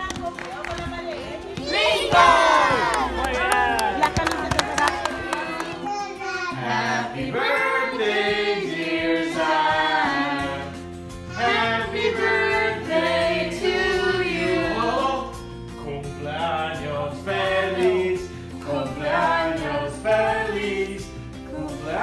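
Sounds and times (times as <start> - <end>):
voices singing together: 1.6 - 22.0.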